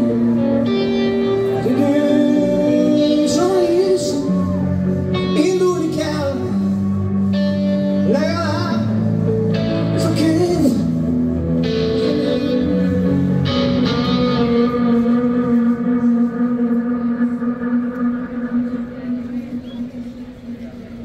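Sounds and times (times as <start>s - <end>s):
electric guitar sustained chords: 0.0s - 21.0s
live rock band playing: 0.0s - 21.0s.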